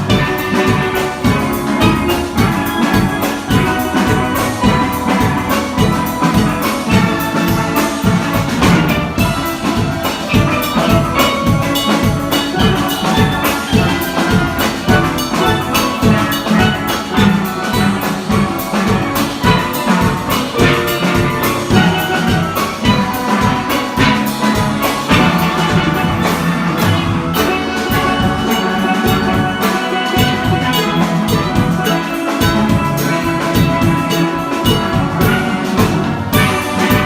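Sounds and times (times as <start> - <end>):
steel pan ensemble playing: 0.0 - 37.0.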